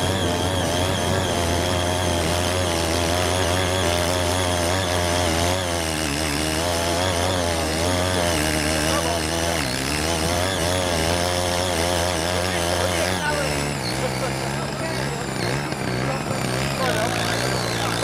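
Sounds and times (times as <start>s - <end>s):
tiller engine running: 0.0s - 18.0s.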